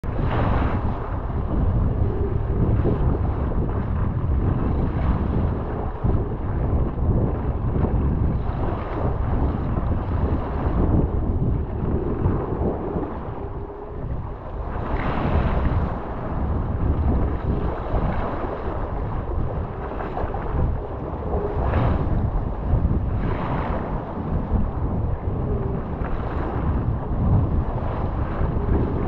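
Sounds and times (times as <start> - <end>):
choppy water rushing: 0.0 - 29.0
paddle and wave splashes: 0.0 - 29.0
wind buffeting microphone: 0.0 - 29.0.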